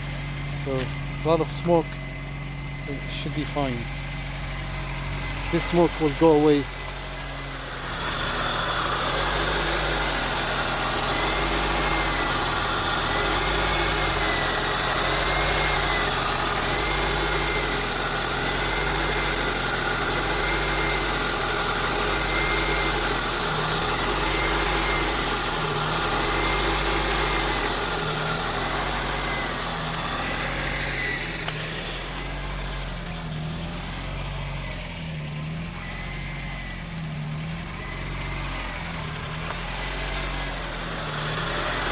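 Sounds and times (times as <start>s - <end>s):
car engine idling: 0.0s - 41.9s
faint engine whine: 0.0s - 41.9s.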